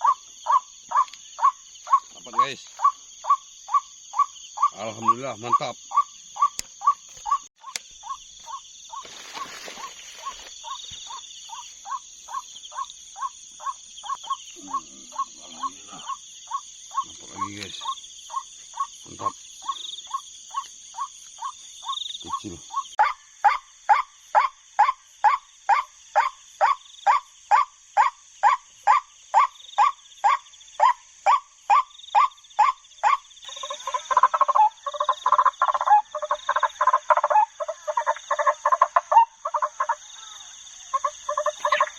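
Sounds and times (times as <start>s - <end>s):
night insects chorus: 0.0s - 41.9s
repeated animal call: 0.0s - 41.9s.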